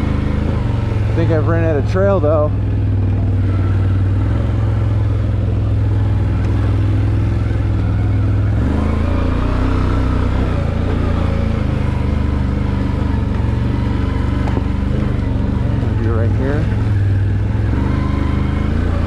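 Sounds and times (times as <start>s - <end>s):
off-road vehicle engine running: 0.0s - 19.0s.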